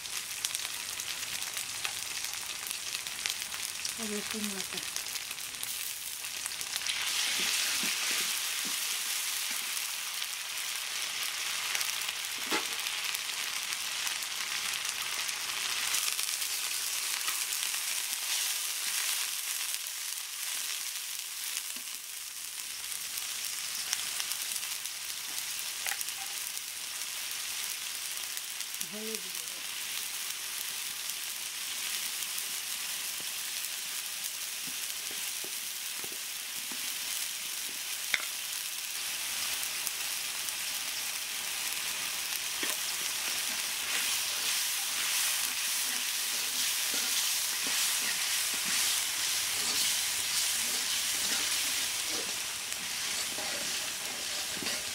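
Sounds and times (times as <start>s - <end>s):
onions sizzling in oil: 0.0s - 54.9s.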